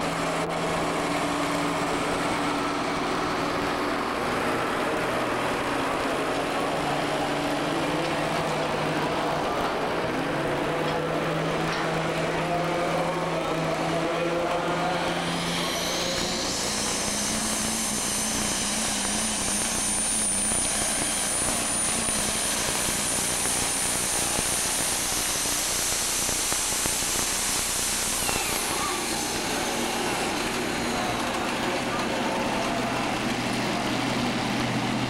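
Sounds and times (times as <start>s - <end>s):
diesel engine at full throttle: 0.0s - 35.0s
high turbo whine: 0.0s - 35.0s.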